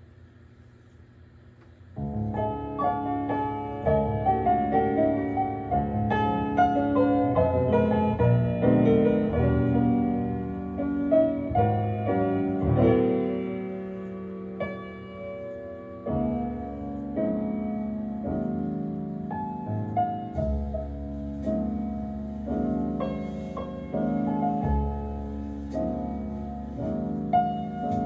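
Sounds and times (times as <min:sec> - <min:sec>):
tape hiss: 0:00.0 - 0:28.0
solo piano music: 0:02.0 - 0:28.0.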